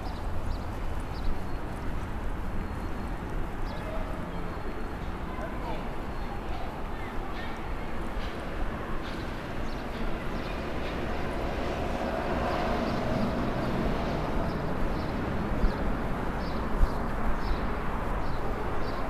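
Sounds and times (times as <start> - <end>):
rumble of traffic: 0.0 - 19.0.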